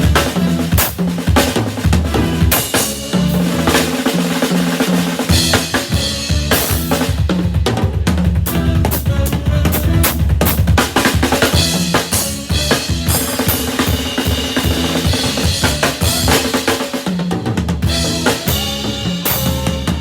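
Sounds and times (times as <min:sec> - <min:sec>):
drum kit playing busily: 0:00.0 - 0:20.0
instrumental band music: 0:00.0 - 0:20.0.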